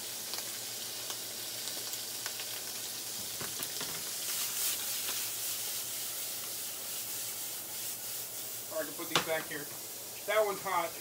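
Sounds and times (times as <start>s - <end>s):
shrimp sizzling in a frying pan: 0.0s - 11.0s.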